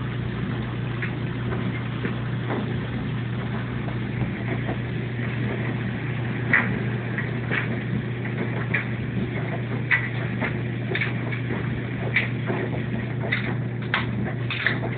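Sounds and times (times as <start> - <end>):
washing machine humming: 0.0 - 14.9.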